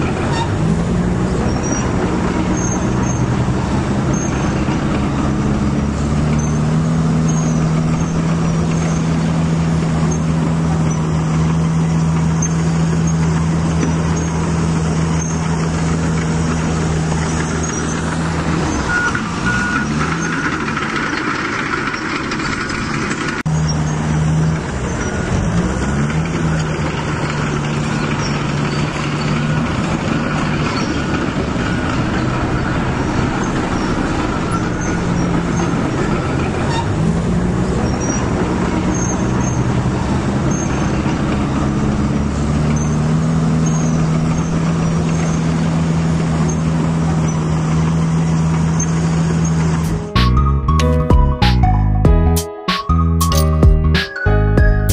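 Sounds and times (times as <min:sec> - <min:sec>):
diesel engine humming and revving: 0:00.0 - 0:54.9.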